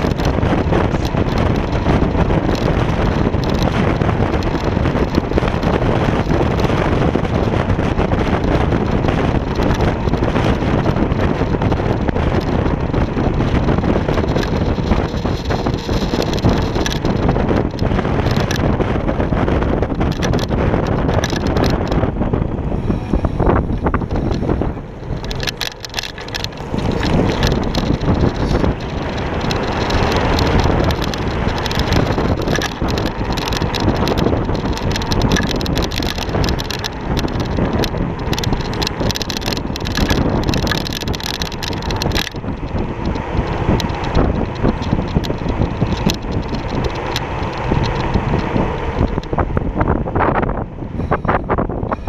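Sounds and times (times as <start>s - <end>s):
rattles and knocks from bumps: 0.0s - 50.5s
road and tyre noise: 0.0s - 52.0s
wind buffeting microphone: 0.0s - 52.0s.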